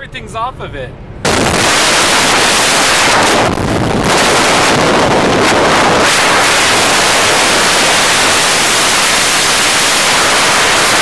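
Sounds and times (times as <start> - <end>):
wind rush over microphone: 1.2 - 11.0.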